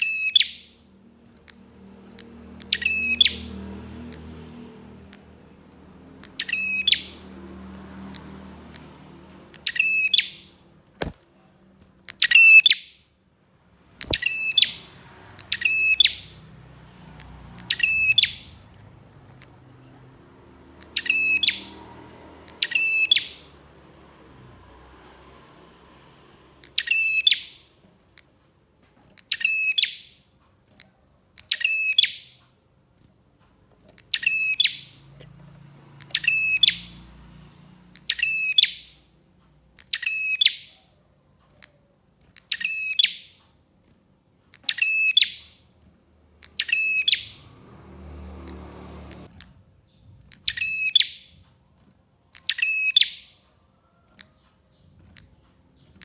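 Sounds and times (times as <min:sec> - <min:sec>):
bird chirping song: 0:00.0 - 0:11.2, 0:11.8 - 0:13.1, 0:13.8 - 0:32.7, 0:33.3 - 0:43.6, 0:44.3 - 0:56.0.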